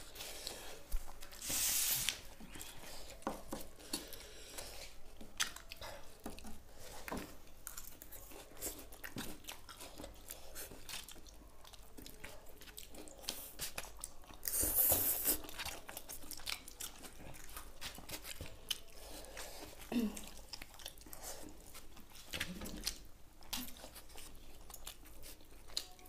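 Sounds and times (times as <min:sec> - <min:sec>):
wet chewing of noodles: 0:00.0 - 0:26.0.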